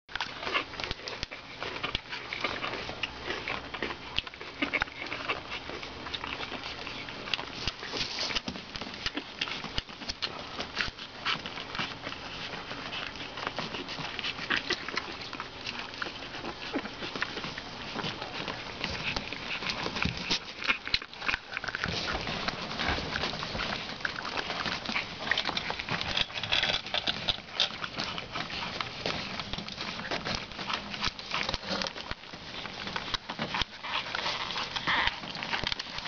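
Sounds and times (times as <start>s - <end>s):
puppies scratching and rustling: 0.1s - 36.0s.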